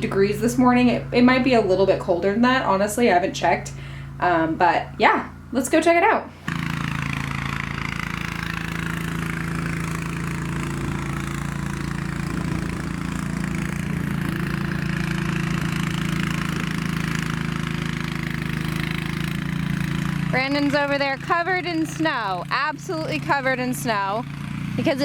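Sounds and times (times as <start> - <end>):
snowblower engine running: 0.0 - 25.0.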